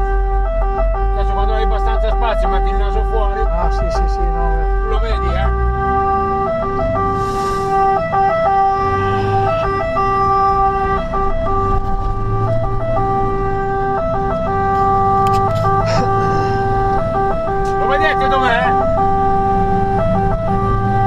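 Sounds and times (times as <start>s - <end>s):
engine and road rumble: 0.0s - 21.0s
fire engine siren: 0.0s - 21.0s.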